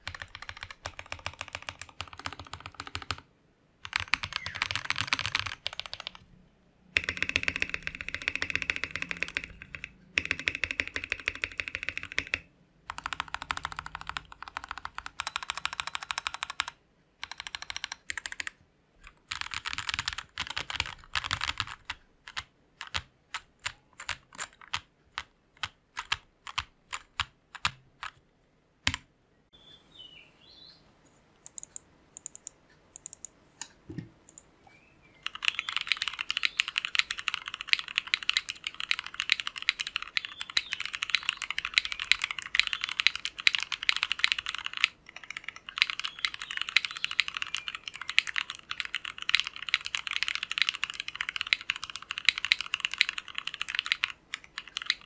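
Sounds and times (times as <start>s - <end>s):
mechanical keyboard typing: 0.0s - 6.2s, 7.0s - 28.2s, 31.4s - 33.3s, 35.2s - 55.0s.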